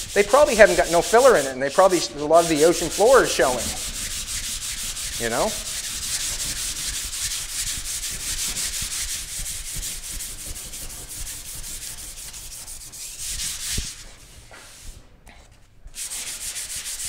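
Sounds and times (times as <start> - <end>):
sandpaper rubbing on panel: 0.0 - 15.0, 15.9 - 17.0.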